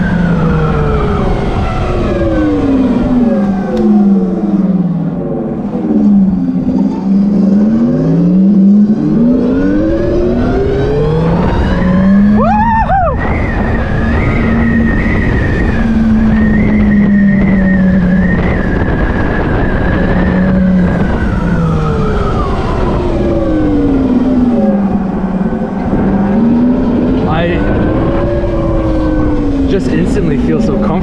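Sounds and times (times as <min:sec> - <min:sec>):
electric motorcycle motor drone: 0:00.0 - 0:31.0
warbling tone: 0:00.0 - 0:31.0
wind noise: 0:00.0 - 0:31.0.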